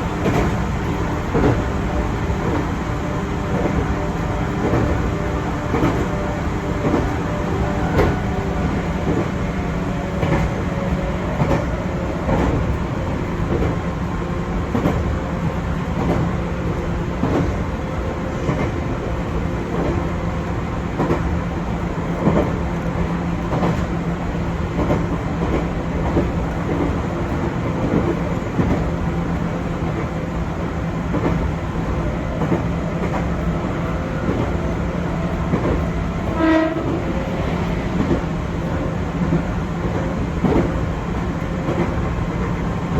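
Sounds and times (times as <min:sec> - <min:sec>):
train running rumble and hum: 0:00.0 - 0:42.9.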